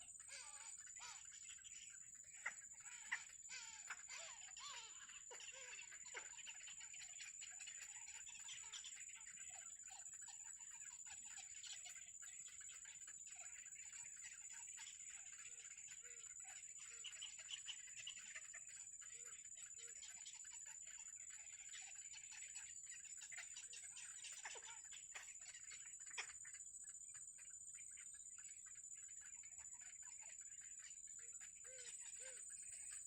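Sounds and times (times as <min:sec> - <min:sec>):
nestling birds cheeping: 0:00.0 - 0:33.0.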